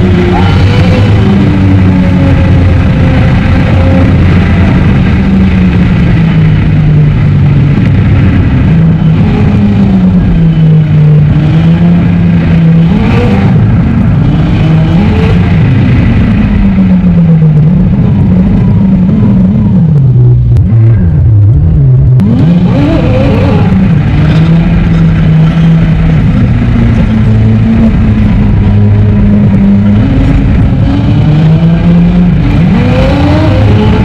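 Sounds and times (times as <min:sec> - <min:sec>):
sports car engine revving: 0:00.0 - 0:34.0.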